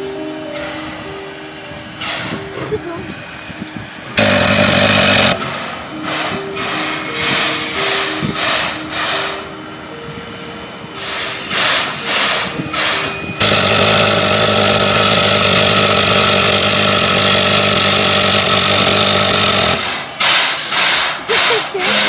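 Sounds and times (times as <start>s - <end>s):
train running noise: 0.0s - 22.0s
steam locomotive chuffing: 0.5s - 9.6s, 11.0s - 22.0s.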